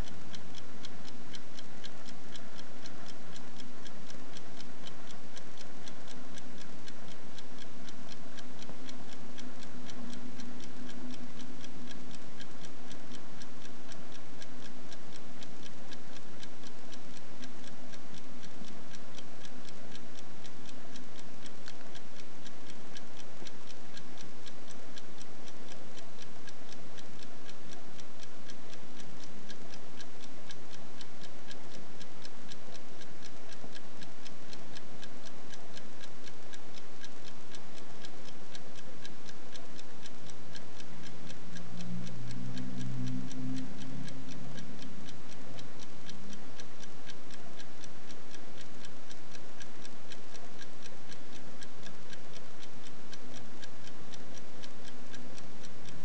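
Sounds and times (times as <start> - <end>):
low background hum: 0.0 - 55.9
pocket watch ticking: 0.0 - 56.0.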